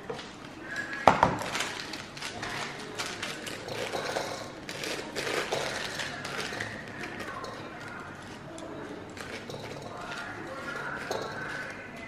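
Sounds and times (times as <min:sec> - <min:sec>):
tea bags rustling: 0:00.0 - 0:12.0.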